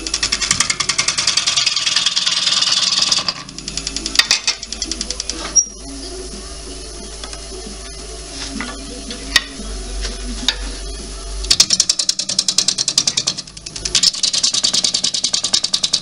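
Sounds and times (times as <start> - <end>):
wood lathe hum: 0.0 - 16.0.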